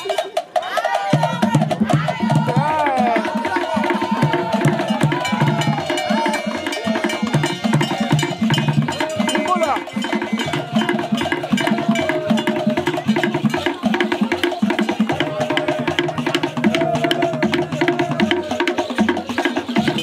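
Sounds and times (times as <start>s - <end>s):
log drums and hand drums: 0.0s - 20.0s.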